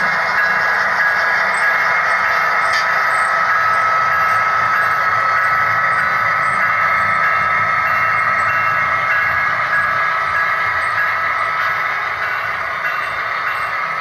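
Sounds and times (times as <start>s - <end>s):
model locomotive engine drone: 0.0s - 14.0s.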